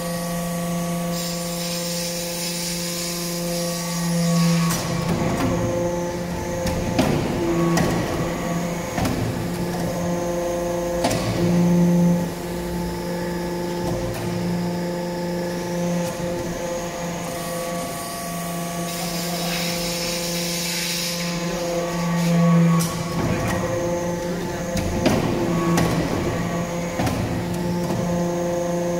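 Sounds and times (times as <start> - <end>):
hydraulic pump hum: 0.0 - 28.9
pitched machine whine: 0.0 - 28.9.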